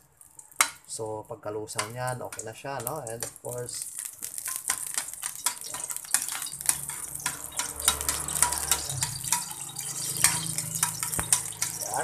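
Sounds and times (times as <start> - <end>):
fat sizzling in a wok: 0.0 - 12.0.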